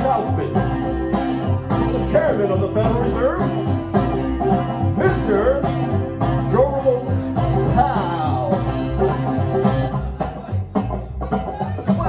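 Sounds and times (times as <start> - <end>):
banjo picking melody: 0.0 - 12.0
plucked double bass: 0.0 - 12.0.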